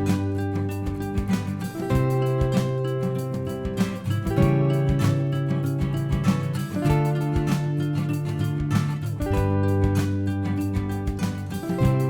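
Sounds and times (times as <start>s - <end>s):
steady beat: 0.0s - 12.0s
strummed acoustic guitar: 0.0s - 12.0s.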